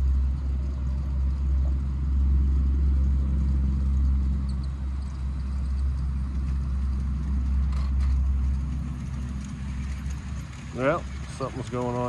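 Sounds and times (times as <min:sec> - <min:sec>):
model train rumbling on track: 0:00.0 - 0:12.0.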